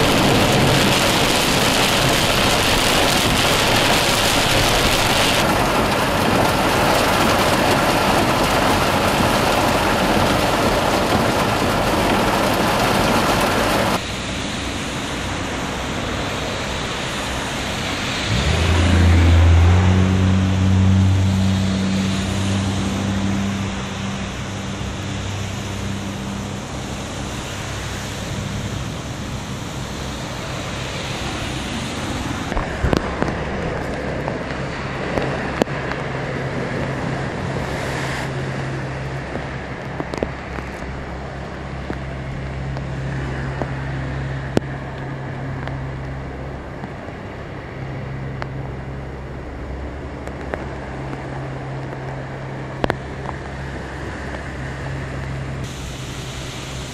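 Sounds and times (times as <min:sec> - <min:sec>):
heavy rain: 0:00.0 - 0:56.9
low traffic hum: 0:00.0 - 0:56.9.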